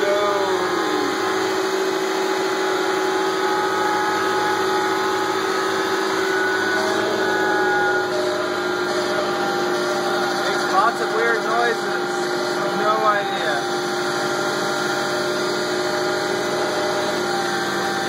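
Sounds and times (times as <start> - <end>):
snowblower engine running: 0.0 - 18.0
steady machine whine: 0.0 - 18.0.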